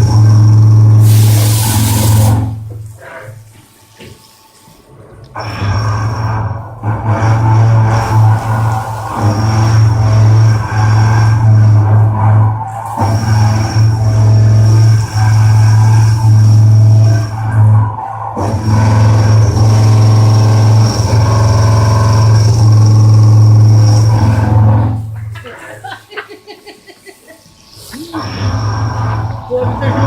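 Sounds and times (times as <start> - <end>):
milling machine cutting metal: 0.0 - 3.4, 5.4 - 25.4, 28.0 - 30.0.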